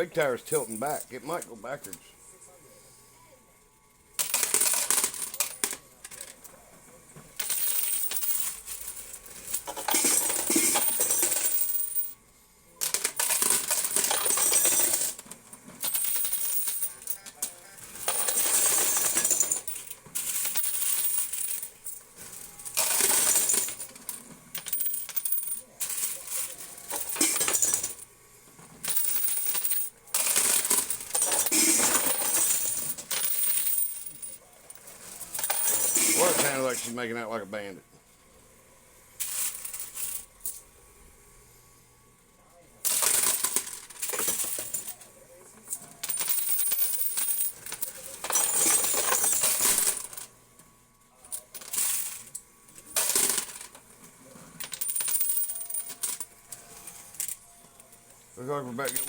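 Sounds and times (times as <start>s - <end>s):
coins clattering and clinking: 0.4s - 2.0s, 4.2s - 6.6s, 7.3s - 12.2s, 12.8s - 36.9s, 39.2s - 40.7s, 42.8s - 50.3s, 51.3s - 53.8s, 54.4s - 57.9s, 58.7s - 59.0s.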